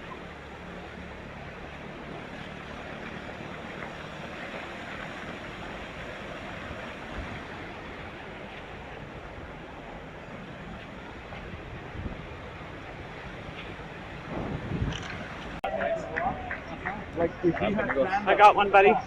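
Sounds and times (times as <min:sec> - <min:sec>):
ocean surf: 0:00.0 - 0:19.0
wind: 0:00.0 - 0:19.0.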